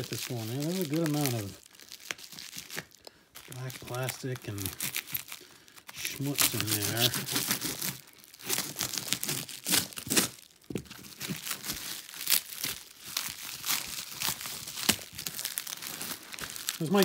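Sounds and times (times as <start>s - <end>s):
plastic wrap crinkling and tearing: 0.0s - 17.0s.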